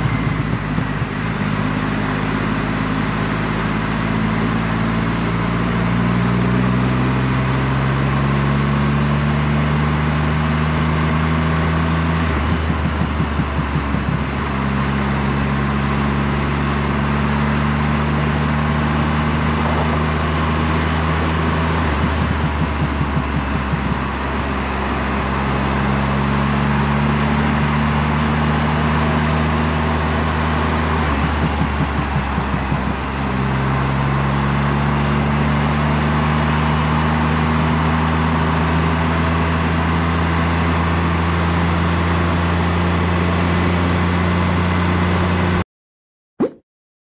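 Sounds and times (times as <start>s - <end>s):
motorcycle engine at highway speed: 0.0s - 45.6s
wind and road noise: 0.0s - 45.6s.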